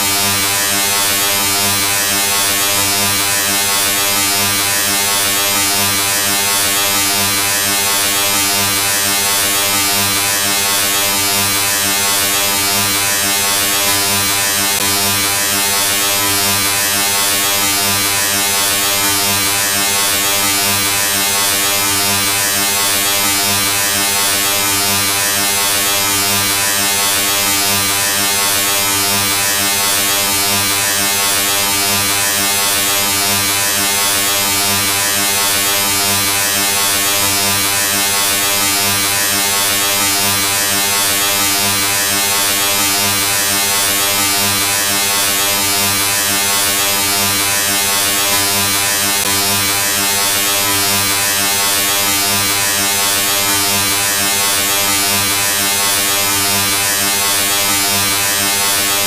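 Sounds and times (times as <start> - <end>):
electric buzz drone: 0.0 - 59.0.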